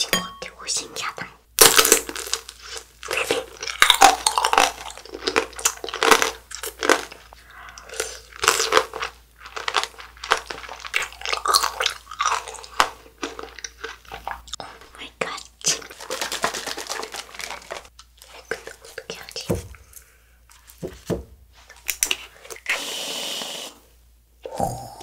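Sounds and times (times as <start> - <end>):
candy coating crunching: 1.6 - 20.8, 21.5 - 22.7.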